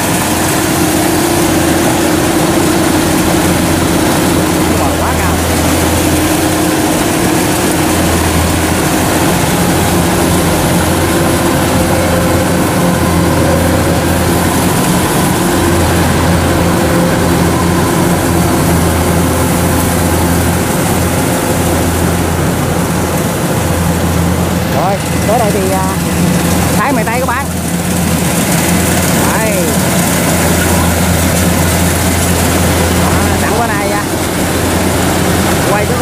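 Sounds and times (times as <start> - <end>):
combine harvester diesel drone: 0.0 - 36.0.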